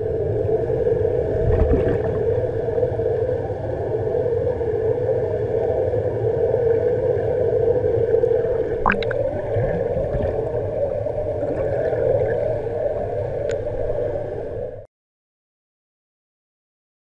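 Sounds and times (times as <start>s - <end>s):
muffled underwater jet rush: 0.0s - 14.9s.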